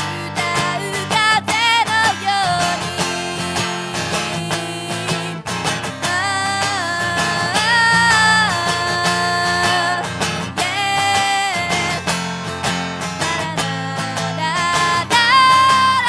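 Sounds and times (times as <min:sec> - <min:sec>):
girl singing: 0:00.0 - 0:16.0
strummed guitar: 0:00.0 - 0:16.0.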